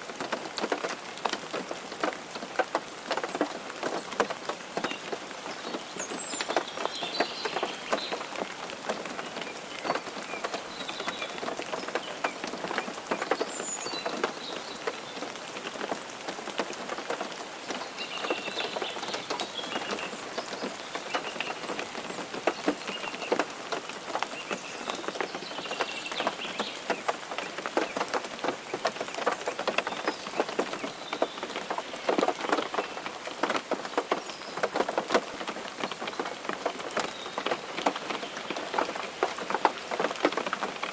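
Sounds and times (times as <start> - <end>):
rain and wet snow on car roof: 0.0 - 40.9.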